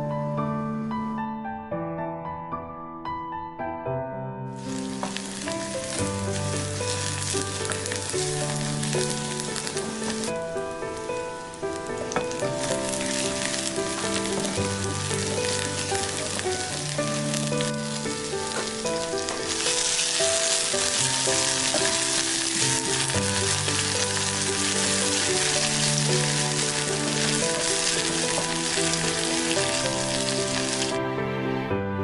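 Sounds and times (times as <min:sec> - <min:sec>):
wooden spatula stirring: 0:04.6 - 0:30.9
food sizzling in hot oil: 0:04.6 - 0:31.0
soft background music: 0:04.6 - 0:32.0.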